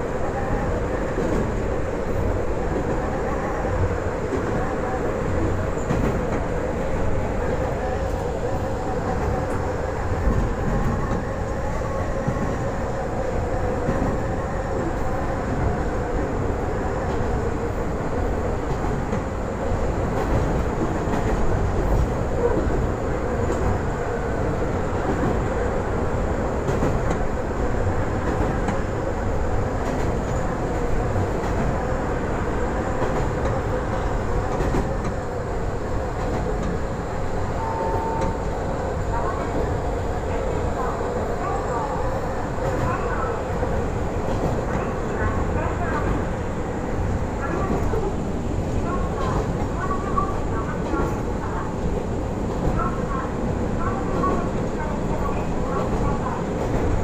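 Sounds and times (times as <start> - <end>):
diesel railcar rumbling: 0.0 - 57.0.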